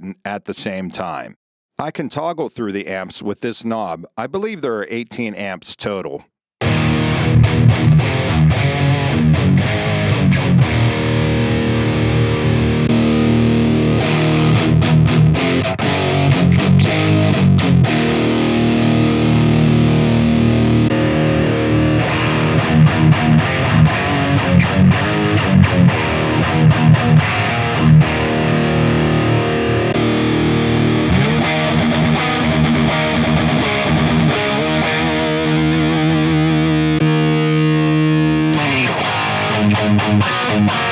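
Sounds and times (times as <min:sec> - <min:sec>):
distorted electric guitar: 0:06.6 - 0:40.9.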